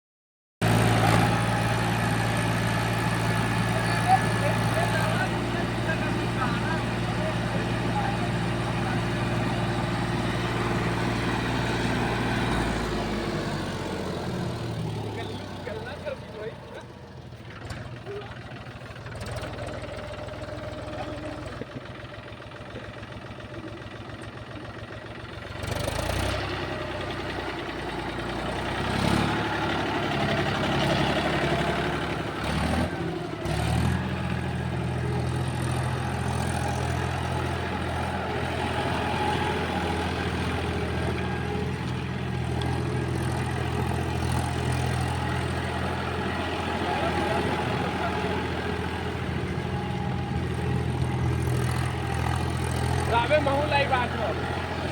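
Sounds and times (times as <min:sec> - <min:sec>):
tractor diesel engine running: 0:00.6 - 0:54.9.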